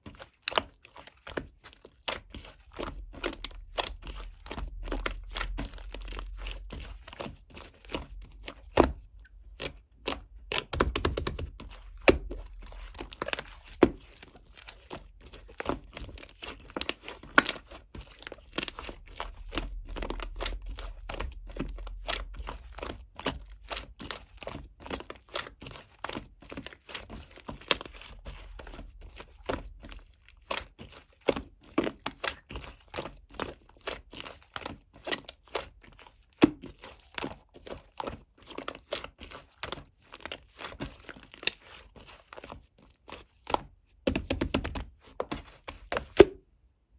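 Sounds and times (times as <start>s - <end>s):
crunching and crackling: 0.0s - 46.2s.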